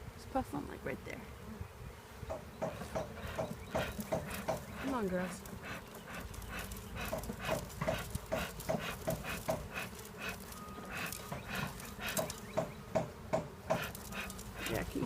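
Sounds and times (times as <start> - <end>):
smoker bellows puffing: 2.3 - 15.0.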